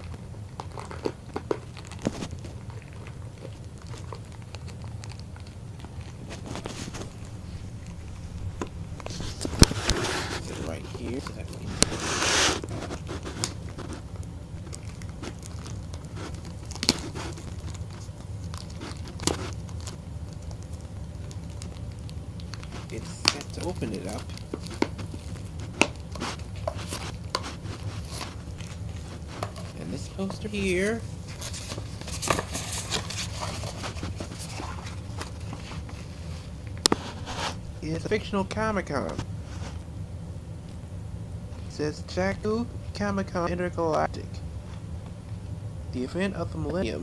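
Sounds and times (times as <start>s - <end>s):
packaging rustling and crinkling: 0.0s - 37.8s
low hum: 0.0s - 47.0s.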